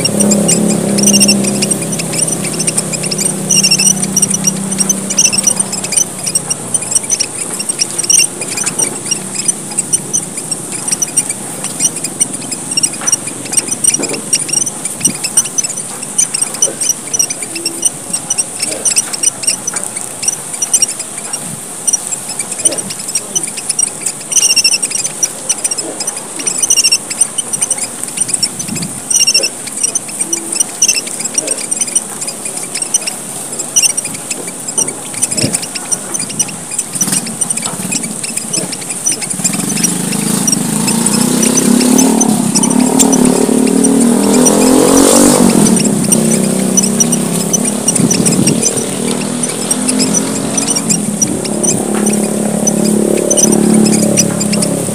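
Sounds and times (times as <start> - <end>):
finches chirping: 0.0 - 54.9.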